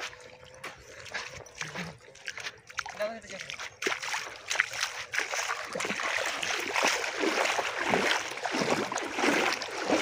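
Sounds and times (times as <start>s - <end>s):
seawater splashing and dripping: 0.0s - 10.0s.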